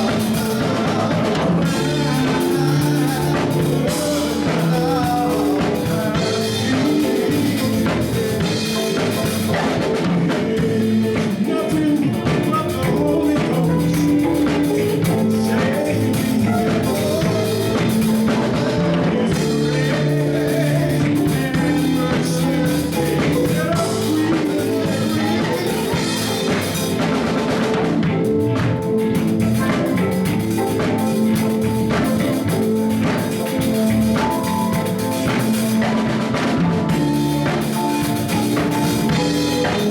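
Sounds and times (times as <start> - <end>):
drum kit: 0.0 - 39.9
guitar: 0.0 - 39.9
person singing: 0.0 - 39.9.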